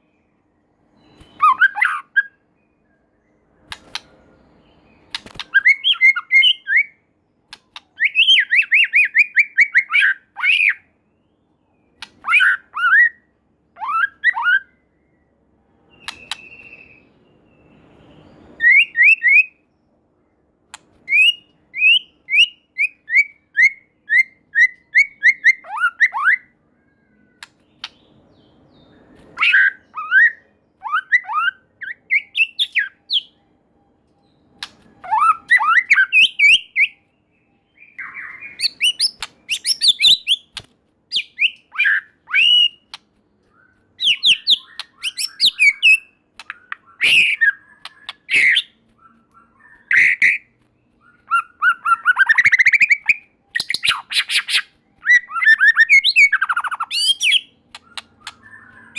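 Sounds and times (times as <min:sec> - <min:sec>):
songbird singing whistles: 0:00.0 - 0:58.9.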